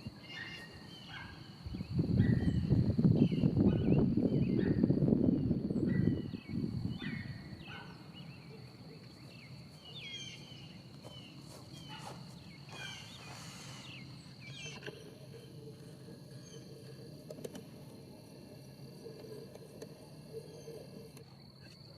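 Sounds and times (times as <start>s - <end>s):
birds chirping: 0.0s - 21.8s
steady high-pitched whine: 0.0s - 21.9s.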